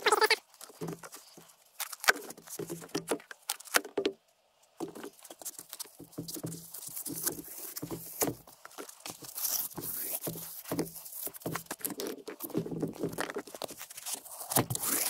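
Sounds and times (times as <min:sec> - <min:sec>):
foam tubes rustling and rubbing: 0:00.0 - 0:04.0, 0:04.6 - 0:15.0.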